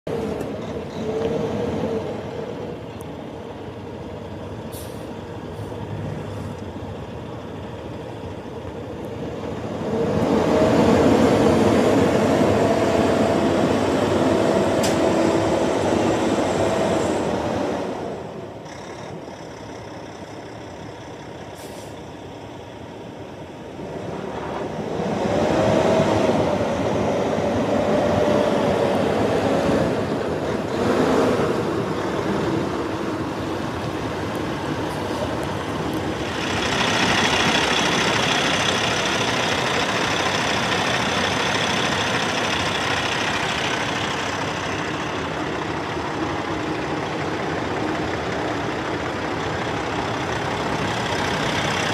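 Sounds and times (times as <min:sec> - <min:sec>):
truck diesel engine: 0:00.0 - 0:51.9.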